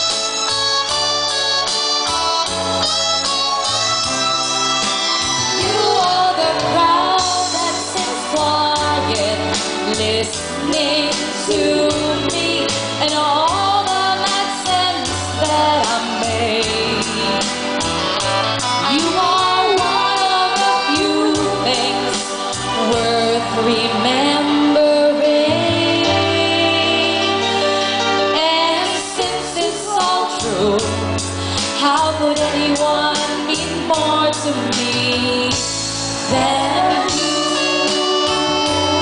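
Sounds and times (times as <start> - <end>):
electronic keyboards: 0.0 - 39.0
woman singing: 5.5 - 17.5, 18.8 - 39.0.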